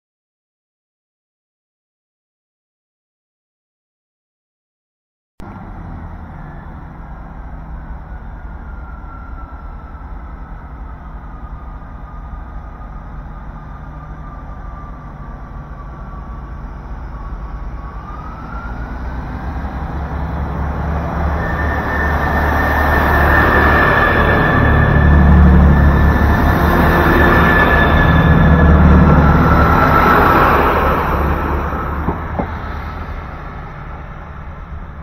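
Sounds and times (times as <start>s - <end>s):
train rumble: 5.4s - 35.0s
high-pitched train squeal: 6.0s - 35.0s.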